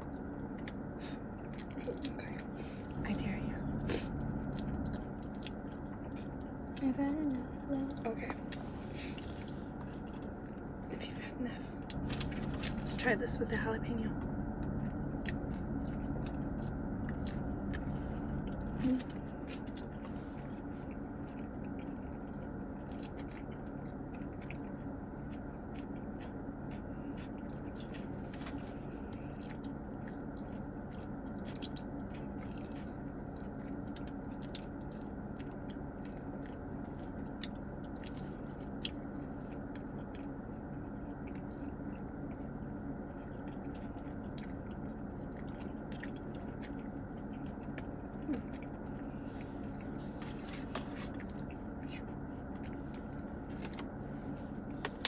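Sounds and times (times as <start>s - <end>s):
close chewing and mouth sounds: 0.0s - 55.0s
steady low hum: 0.0s - 55.0s.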